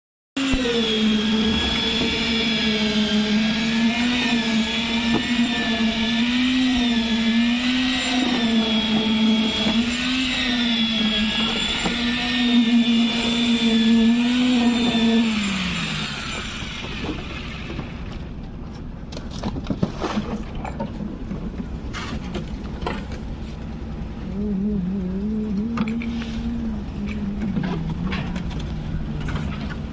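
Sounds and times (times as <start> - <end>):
concrete vibrator humming: 0.4 - 18.4, 20.6 - 29.9
rough rumble with clatter: 0.5 - 29.9.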